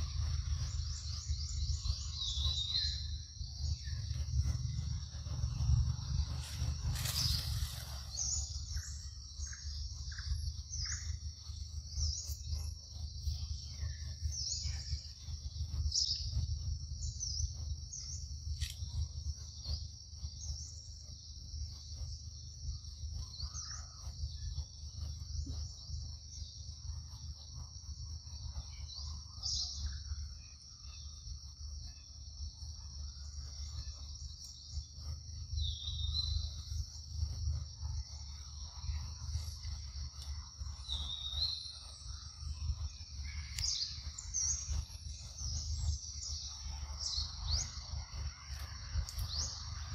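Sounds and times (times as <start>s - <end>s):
bird chirps: 0.0s - 49.9s
insect chorus: 0.0s - 49.9s
low rumble: 0.0s - 49.9s.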